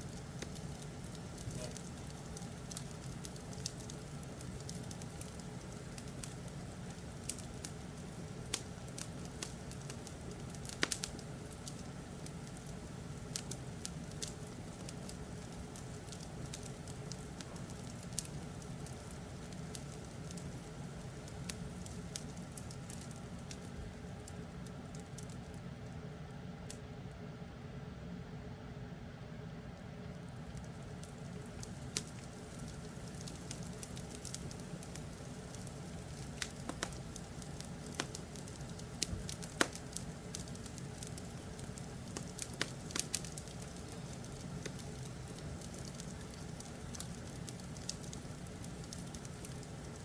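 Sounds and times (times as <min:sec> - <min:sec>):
wood fire crackling and popping: 0:00.0 - 0:26.1, 0:29.7 - 0:50.0.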